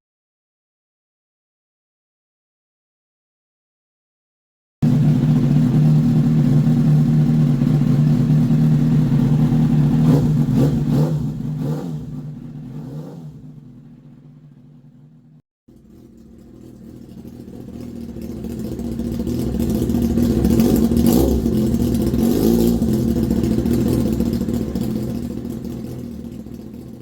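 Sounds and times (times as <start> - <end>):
motorcycle exhaust: 4.8 - 27.0.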